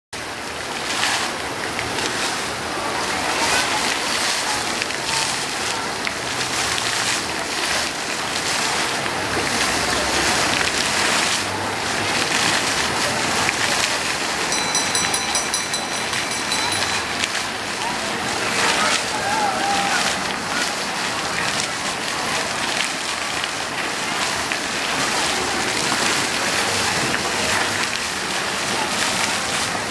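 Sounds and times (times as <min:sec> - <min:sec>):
fountain jets splashing: 0:00.2 - 0:29.9.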